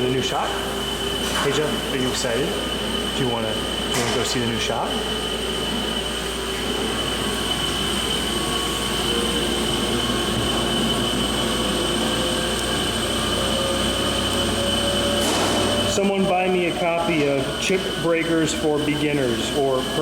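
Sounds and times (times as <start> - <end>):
high machine whine: 0.0 - 20.0
lathe machining steel: 0.0 - 20.0
lower machine tone: 0.0 - 20.0.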